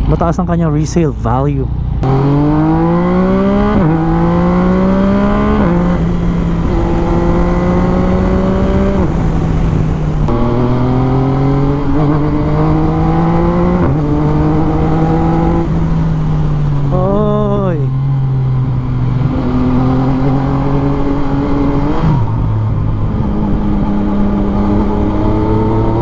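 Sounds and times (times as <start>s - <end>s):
motorcycle accelerating through gears: 1.7s - 26.0s.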